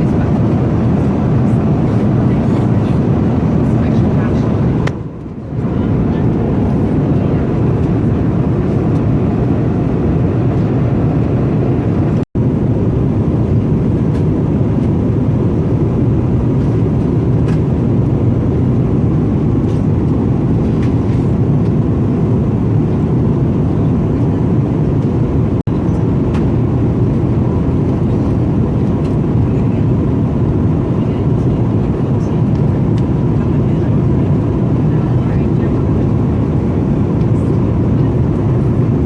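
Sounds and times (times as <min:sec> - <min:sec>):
airliner cabin engine rush: 0:00.0 - 0:39.0.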